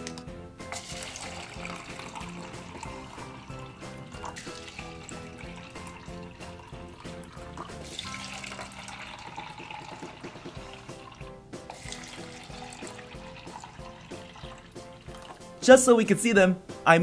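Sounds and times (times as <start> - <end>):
background music: 0.0 - 17.0
water pouring and splashing: 0.7 - 15.6.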